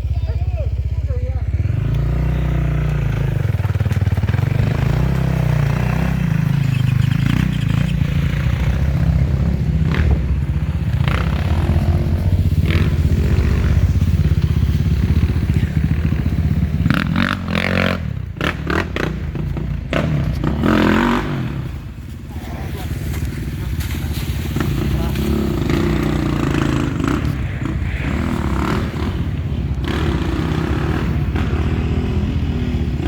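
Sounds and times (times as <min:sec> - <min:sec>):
motorcycle engine running hard: 0:00.0 - 0:33.0.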